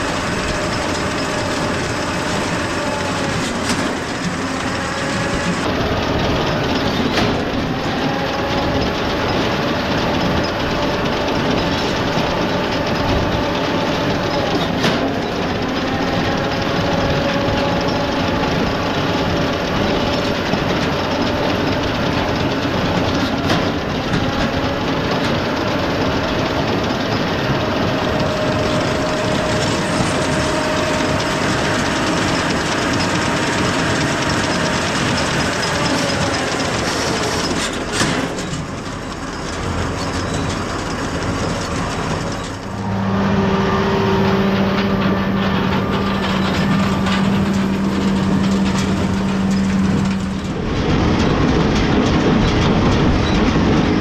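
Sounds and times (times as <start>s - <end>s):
baler clattering: 0.0s - 54.0s
tractor diesel engine running: 0.0s - 54.0s.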